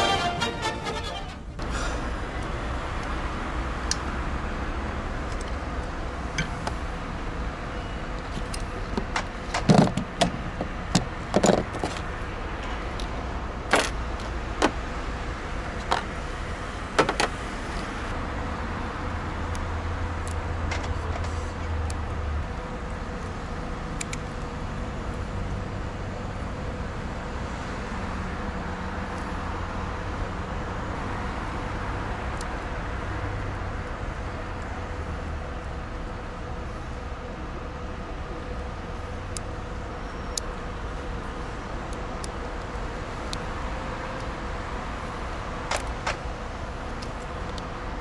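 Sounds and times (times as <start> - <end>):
traffic noise: 0.0 - 48.0.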